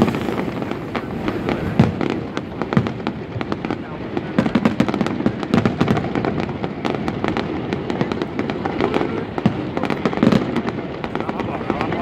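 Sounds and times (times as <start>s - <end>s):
constant background noise: 0.0s - 12.0s
fireworks bangs and crackles: 0.0s - 12.0s.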